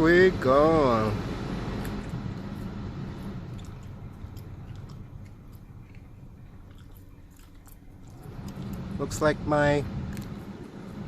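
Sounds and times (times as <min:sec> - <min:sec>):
blower fan pushing air: 0:00.0 - 0:11.0
engine idling: 0:00.0 - 0:11.0.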